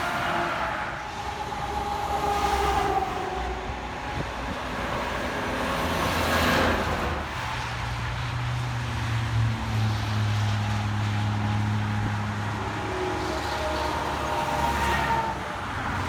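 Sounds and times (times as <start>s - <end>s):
heavy vehicle engine drone: 0.0s - 16.0s.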